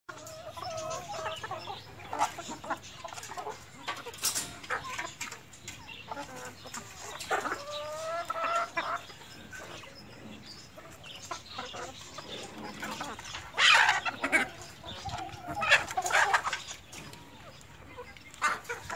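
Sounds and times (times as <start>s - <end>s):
chickens clucking and calling: 0.1s - 18.9s.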